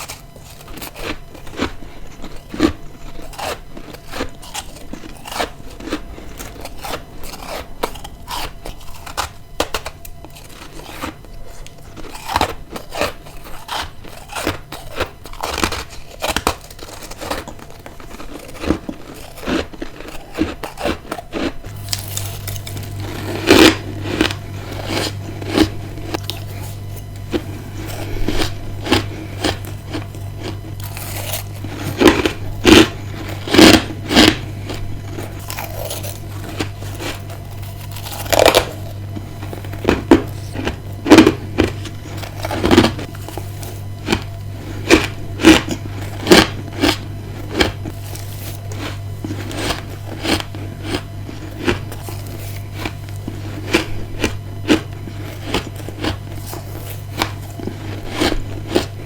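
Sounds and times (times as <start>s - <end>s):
ice being chewed: 0.0s - 59.0s
steady low hum: 0.0s - 59.0s.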